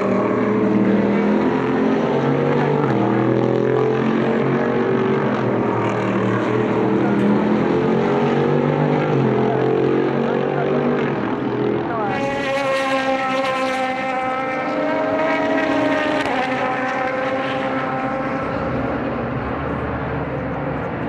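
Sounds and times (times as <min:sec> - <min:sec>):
race car engines accelerating: 0:00.0 - 0:21.0.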